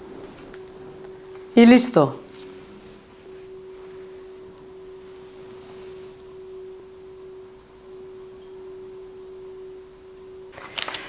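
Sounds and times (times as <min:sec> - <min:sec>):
background hiss: 0:00.0 - 0:11.0
faint steady hum: 0:00.0 - 0:11.0.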